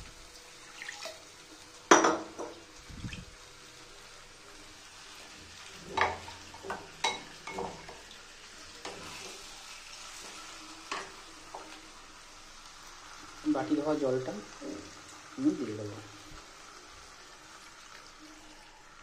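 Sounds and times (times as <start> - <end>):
fish frying in oil: 0.0 - 19.0.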